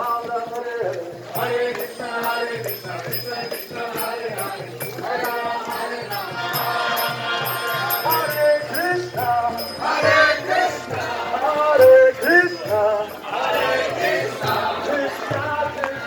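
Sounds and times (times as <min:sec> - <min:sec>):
metal percussion ringing: 0:00.0 - 0:15.8
devotional chanting: 0:00.0 - 0:16.0.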